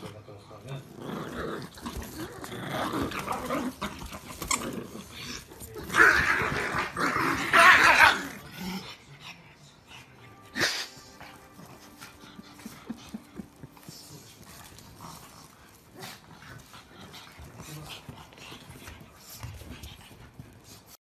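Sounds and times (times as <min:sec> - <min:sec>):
dogs growling: 0:00.0 - 0:21.0.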